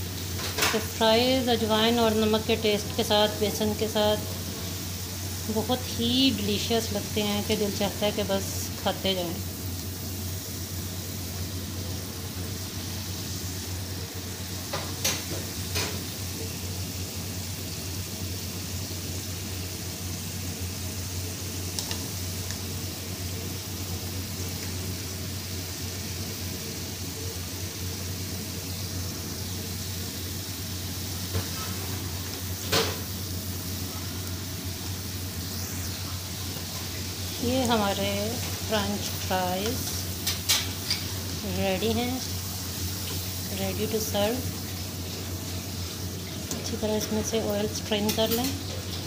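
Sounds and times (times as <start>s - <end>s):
fries sizzling in hot oil: 0.0s - 49.0s.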